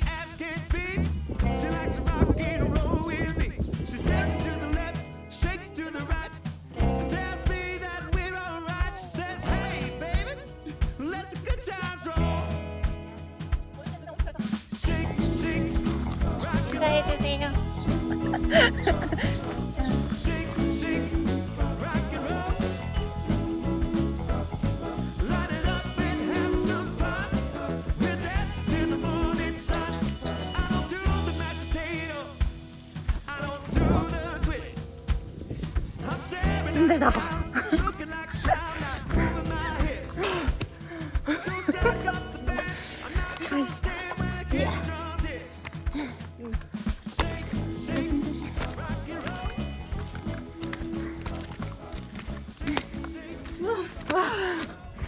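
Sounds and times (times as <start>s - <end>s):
pop song with woman singing: 0.0s - 12.6s, 13.8s - 32.5s, 33.1s - 34.9s, 35.9s - 51.1s, 52.6s - 55.0s.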